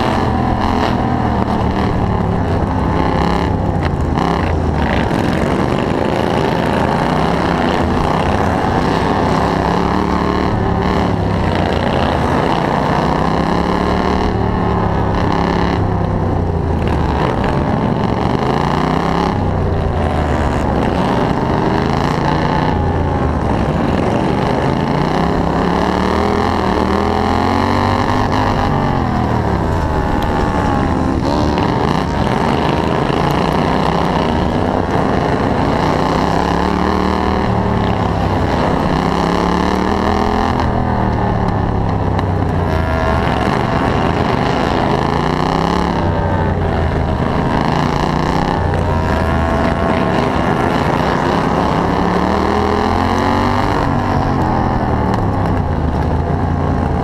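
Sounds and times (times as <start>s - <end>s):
lawn mower engine revving: 0.0s - 57.0s.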